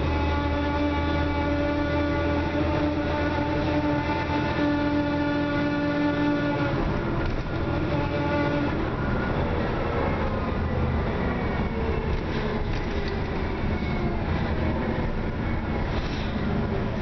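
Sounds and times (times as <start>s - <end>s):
bus engine rumble: 0.0s - 17.0s
high drivetrain whine: 0.0s - 17.0s.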